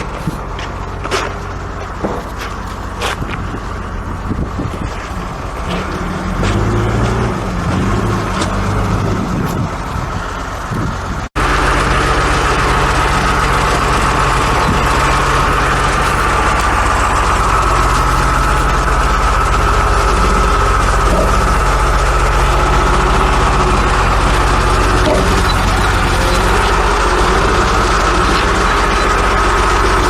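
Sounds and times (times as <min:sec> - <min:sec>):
large engine running: 0:00.0 - 0:30.0
steady whine: 0:00.0 - 0:30.0.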